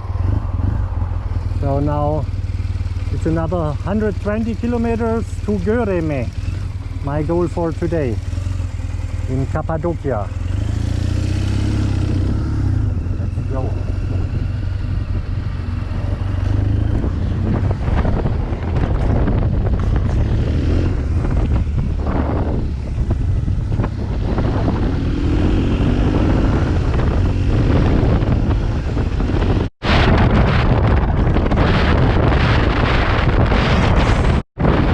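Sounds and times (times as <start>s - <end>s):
motorcycle engine accelerating: 0.0s - 34.9s
wind buffeting microphone: 0.0s - 34.9s.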